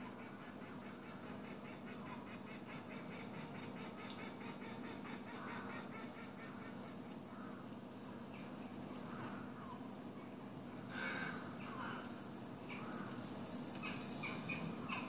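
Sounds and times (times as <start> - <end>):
birds calling through speakers: 0.0 - 15.0
steady low hum: 0.0 - 15.0.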